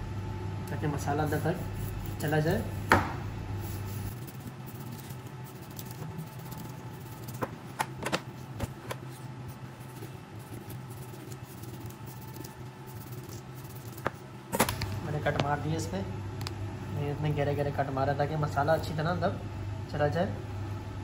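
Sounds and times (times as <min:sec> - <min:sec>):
low kitchen hum: 0:00.0 - 0:21.0.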